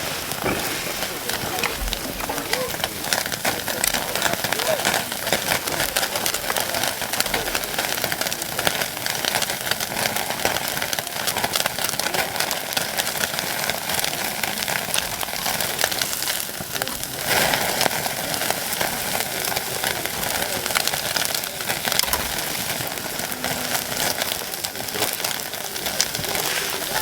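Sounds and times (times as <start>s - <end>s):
steak sizzling over campfire: 0.0s - 27.0s.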